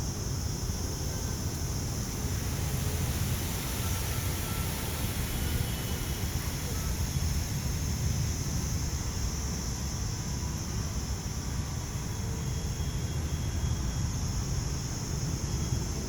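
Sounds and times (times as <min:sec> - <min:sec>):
constant high hiss: 0:00.0 - 0:16.0.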